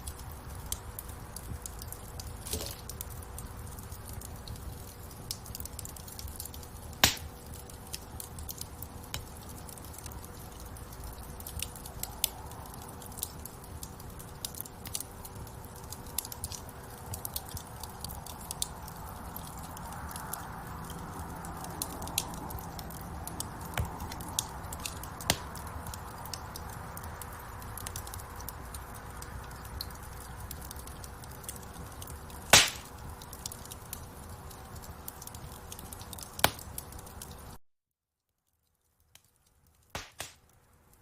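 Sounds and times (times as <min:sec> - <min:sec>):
fire popping: 0:00.0 - 0:37.6, 0:38.4 - 0:41.0
wood fire crackling: 0:00.0 - 0:37.6, 0:38.4 - 0:41.0.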